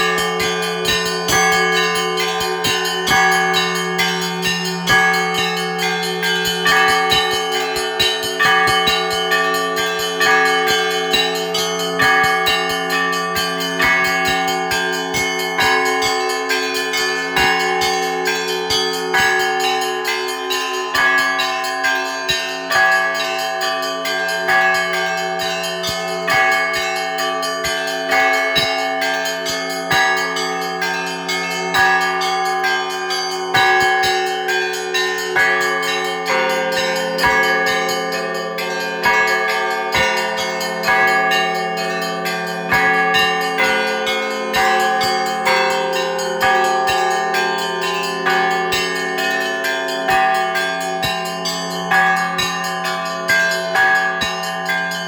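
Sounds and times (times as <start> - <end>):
large bells ringing: 0.0 - 55.0
small church bells chiming rapidly: 0.0 - 55.0.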